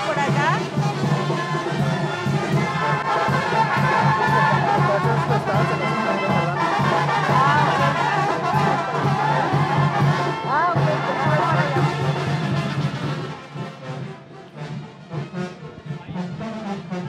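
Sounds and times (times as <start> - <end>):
brass instruments: 0.0 - 17.0.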